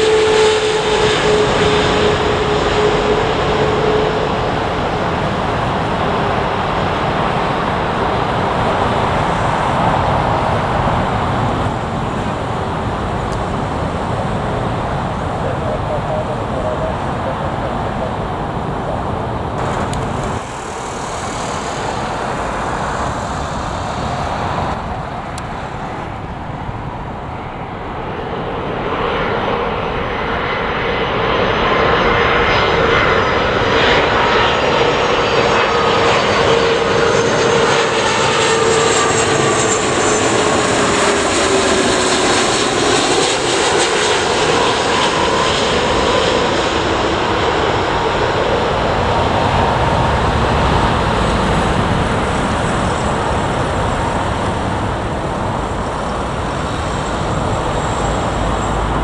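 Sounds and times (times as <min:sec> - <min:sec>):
falling engine whine: 0:00.0 - 0:27.4, 0:28.0 - 0:59.0
jet airliner engine noise: 0:00.0 - 0:59.0.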